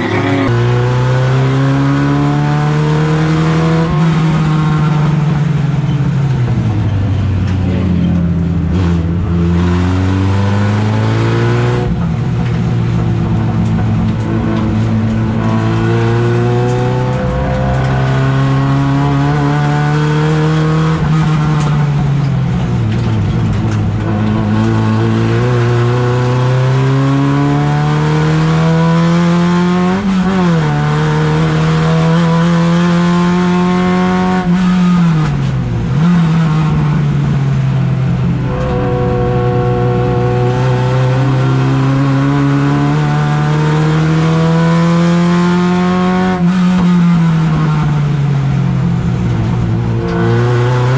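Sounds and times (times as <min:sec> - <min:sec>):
race car engine revving: 0:00.0 - 0:05.2, 0:08.6 - 0:50.9.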